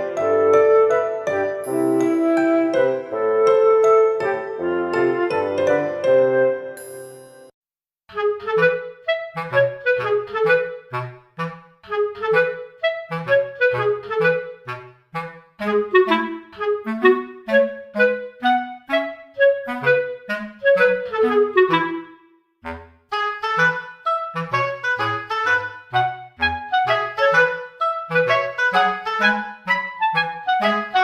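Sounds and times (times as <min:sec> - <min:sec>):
woodwind melody: 0:00.0 - 0:06.9, 0:08.1 - 0:31.0.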